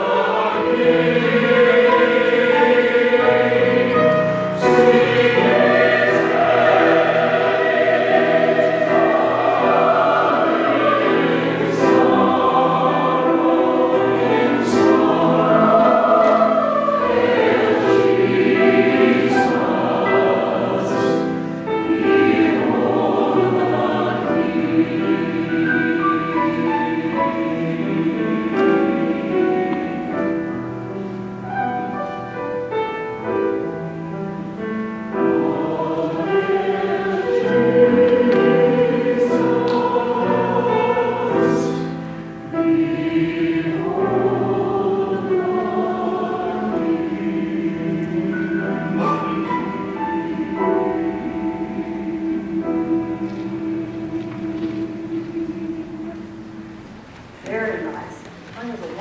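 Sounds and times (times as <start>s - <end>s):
choir singing: 0.0s - 57.4s.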